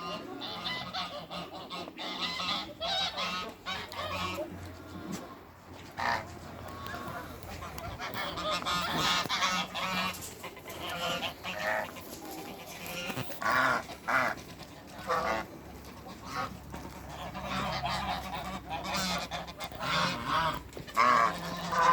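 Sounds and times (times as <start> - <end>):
geese honking: 0.0 - 21.9.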